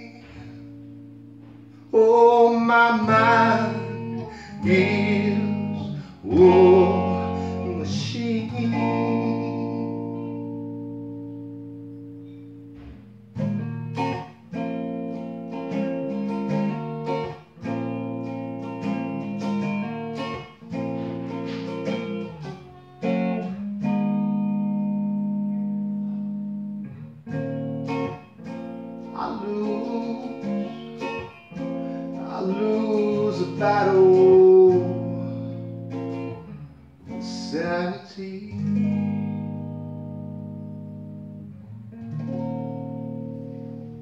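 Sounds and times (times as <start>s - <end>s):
electric guitar playing: 0.0s - 44.0s.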